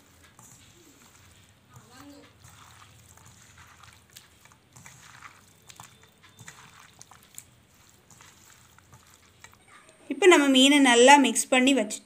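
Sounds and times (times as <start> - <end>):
soft squelching: 0.0 - 10.8.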